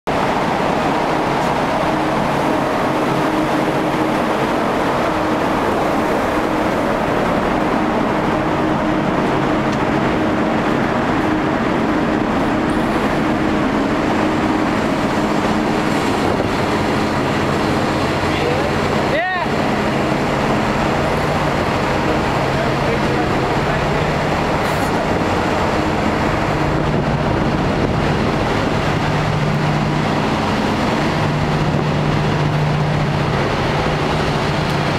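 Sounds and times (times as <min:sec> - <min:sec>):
ship engine drone: 0:00.1 - 0:34.9.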